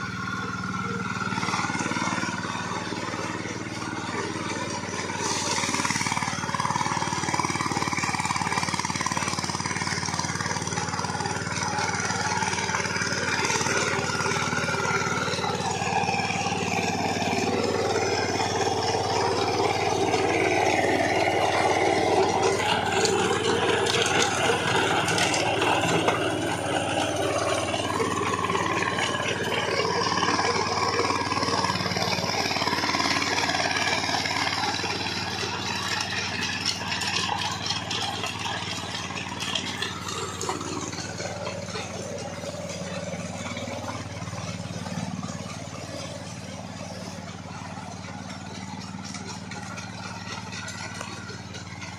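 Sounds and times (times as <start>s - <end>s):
rotary tiller churning soil: 0.0s - 51.9s
tractor diesel engine running: 0.0s - 51.9s.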